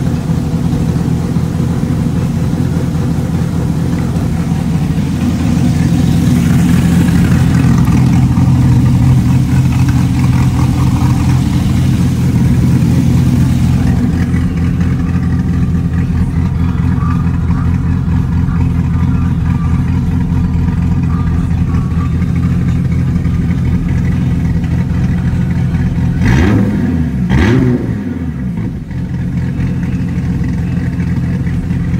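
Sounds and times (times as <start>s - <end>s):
car engine idling: 0.0s - 31.9s
car engine revving: 0.0s - 31.9s.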